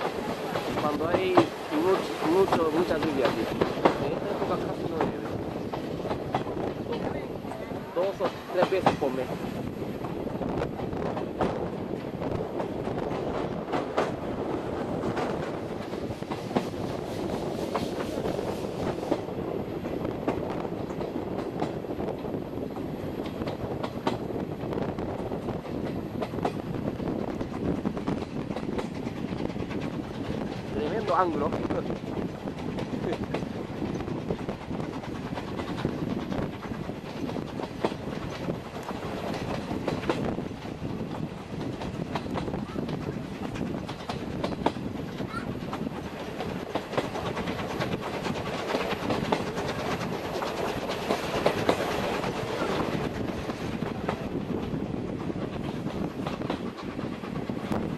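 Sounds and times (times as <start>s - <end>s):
rumble of train wheels: 0.0s - 57.9s
wheels clicking over rail joints: 10.0s - 57.9s.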